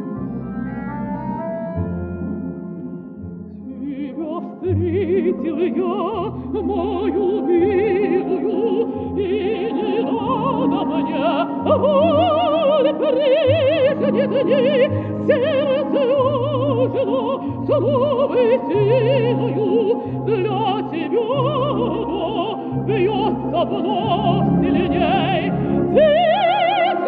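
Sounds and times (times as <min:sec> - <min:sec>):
folk instrument orchestra: 0:00.0 - 0:27.0
operatic woman singing with vibrato: 0:03.6 - 0:27.0.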